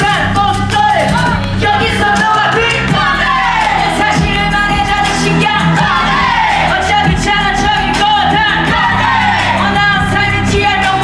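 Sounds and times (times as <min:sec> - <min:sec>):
band with steady beat: 0:00.0 - 0:11.0
person singing live: 0:00.0 - 0:11.0.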